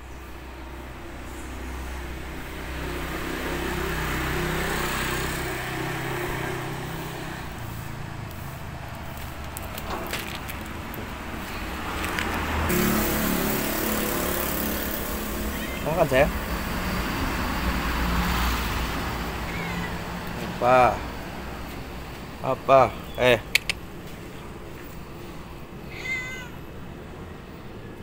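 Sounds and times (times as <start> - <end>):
traffic engine hum: 0.0 - 28.0.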